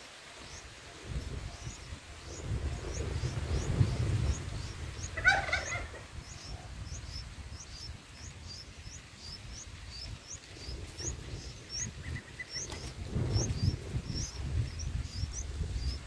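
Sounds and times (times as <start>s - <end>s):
bird and nestlings calling: 0.4s - 16.0s.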